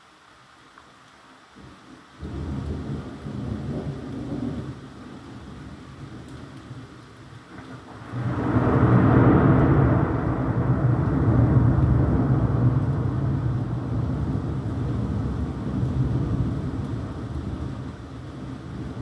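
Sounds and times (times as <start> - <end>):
thunder clap and rumble: 2.2 - 19.0.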